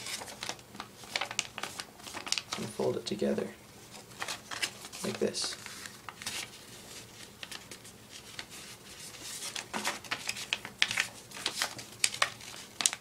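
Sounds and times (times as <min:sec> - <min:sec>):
paper crinkling and rustling: 0:00.0 - 0:02.9, 0:03.8 - 0:13.0.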